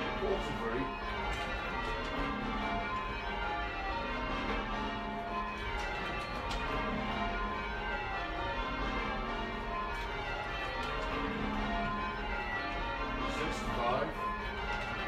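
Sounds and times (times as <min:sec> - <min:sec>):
church bells ringing in changes: 0:00.0 - 0:15.0.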